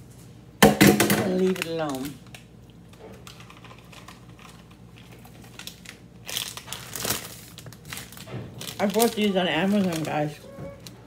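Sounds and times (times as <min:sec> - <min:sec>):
plastic bags rustling: 0:01.2 - 0:11.0
plastic pouch crinkling: 0:01.4 - 0:11.0.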